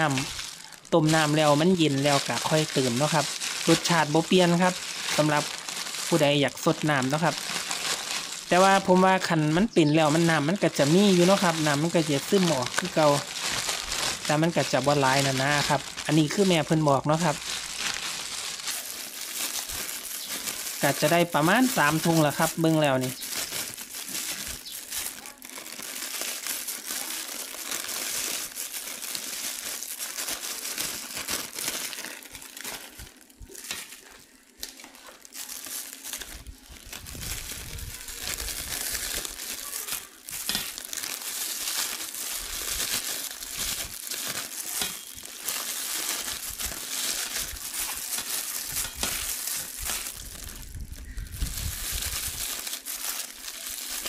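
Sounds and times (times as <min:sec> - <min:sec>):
plastic bags crinkling: 0:00.0 - 0:54.0.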